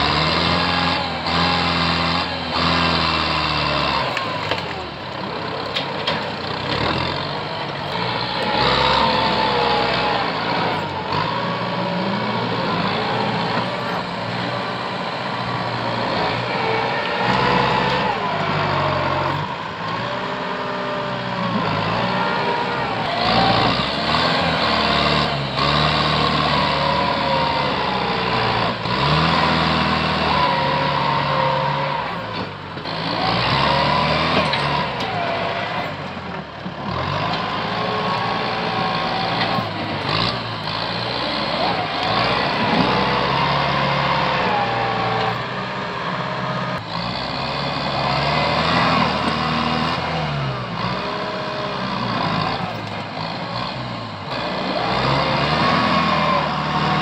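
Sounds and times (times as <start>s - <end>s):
diesel tractor engine under load: 0.0s - 57.0s.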